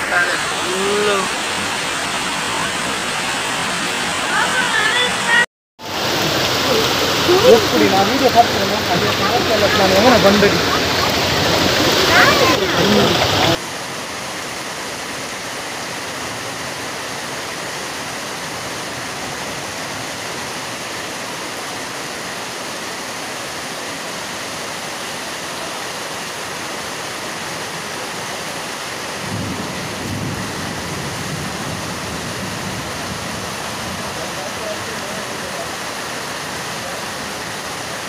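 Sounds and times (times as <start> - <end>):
heavy rain on flooded street: 0.0 - 38.0.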